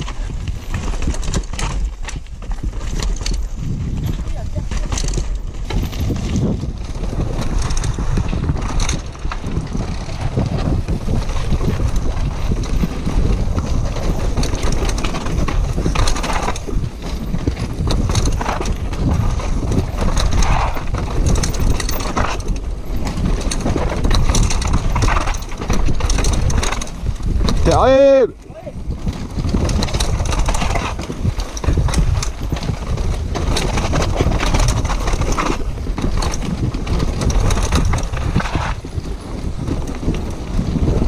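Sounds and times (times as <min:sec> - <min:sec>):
bike chain and frame rattling: 0:00.0 - 0:41.0
wind rumble on microphone: 0:00.0 - 0:41.0.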